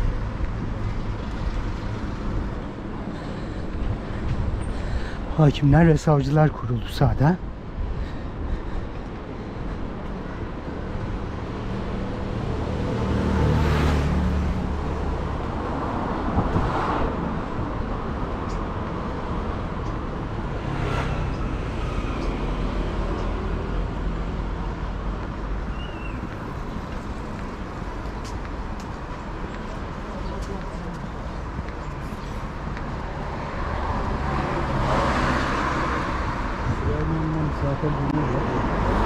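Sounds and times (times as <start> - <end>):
road traffic hum: 0.0 - 39.0
vehicles driving past: 0.0 - 39.0.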